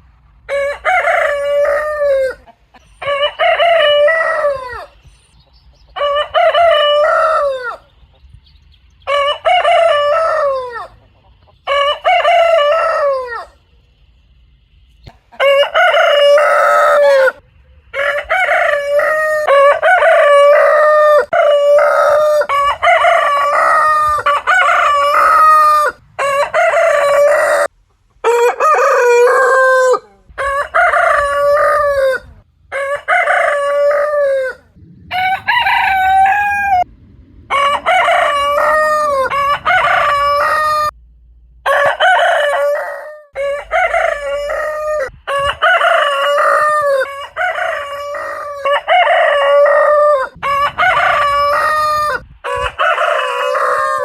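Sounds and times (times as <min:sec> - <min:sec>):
rooster crowing: 0:00.5 - 0:05.0, 0:06.0 - 0:07.9, 0:09.0 - 0:11.0, 0:11.6 - 0:13.7, 0:15.3 - 0:36.9, 0:37.5 - 0:41.0, 0:41.6 - 0:54.0.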